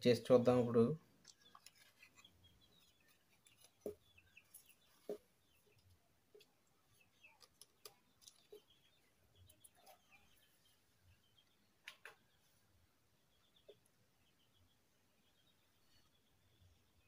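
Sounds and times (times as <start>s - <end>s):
faint bird chirps: 0.9s - 17.0s.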